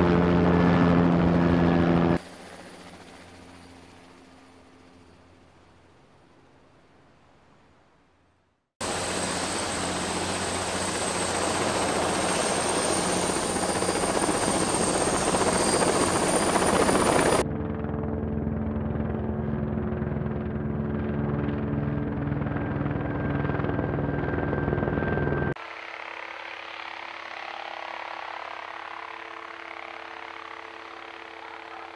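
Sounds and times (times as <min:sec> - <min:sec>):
distant helicopter drone: 0:00.0 - 0:06.4, 0:08.8 - 0:31.9
helicopter flying low overhead: 0:00.0 - 0:06.4, 0:08.8 - 0:31.9.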